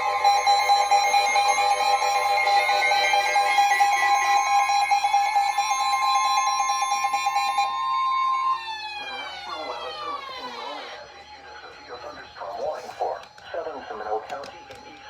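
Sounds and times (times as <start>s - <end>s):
loud alarm tones: 0.0s - 13.3s.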